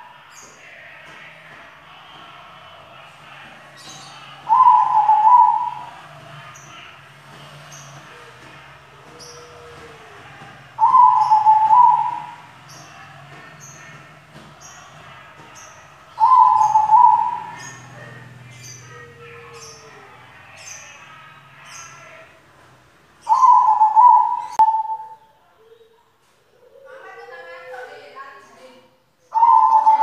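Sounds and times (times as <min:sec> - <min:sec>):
dove cooing: 0:00.0 - 0:14.0, 0:16.1 - 0:20.9, 0:23.2 - 0:28.0, 0:29.3 - 0:30.0.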